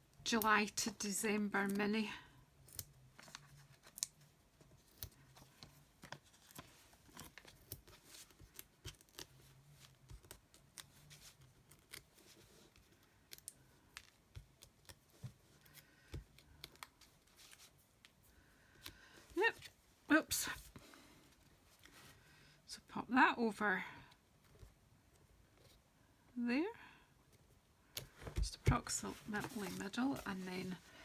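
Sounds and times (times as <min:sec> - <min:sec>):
faint low room hum: 0:00.0 - 0:31.0.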